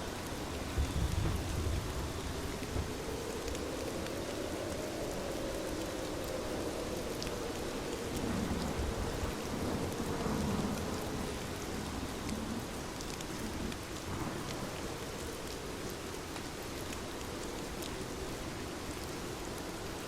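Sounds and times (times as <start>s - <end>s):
low rumble of thunder: 0.0s - 17.2s
steady rain falling: 0.0s - 20.0s.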